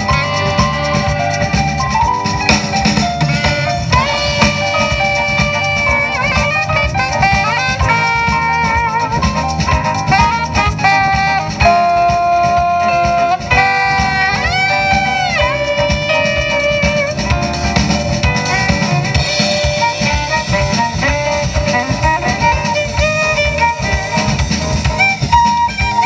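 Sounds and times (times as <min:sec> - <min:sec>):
drum kit: 0:00.0 - 0:26.0
electric bass guitar: 0:00.0 - 0:26.0
keyboard: 0:00.0 - 0:26.0
saxophone melody: 0:00.0 - 0:26.0.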